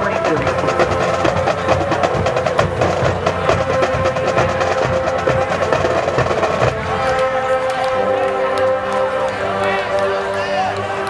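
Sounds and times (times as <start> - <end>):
marching drumline: 0.0 - 9.6
sustained brass notes: 0.0 - 11.0.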